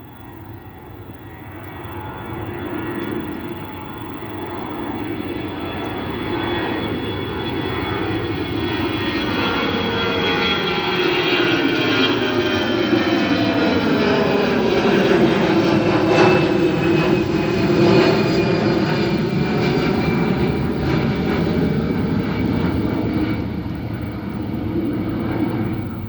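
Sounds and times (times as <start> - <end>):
jet engines roaring and whining: 0.0 - 26.0.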